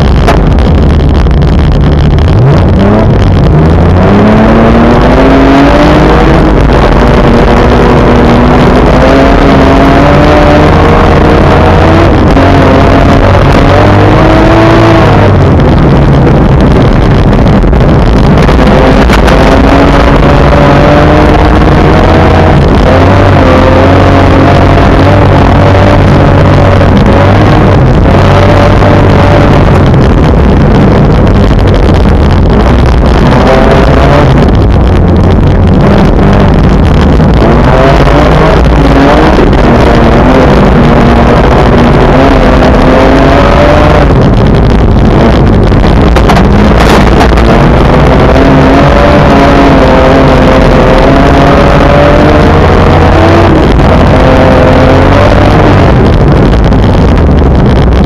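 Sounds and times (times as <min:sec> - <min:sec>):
car engine accelerating: 0:00.0 - 0:58.0
road noise rumble: 0:00.0 - 0:58.0.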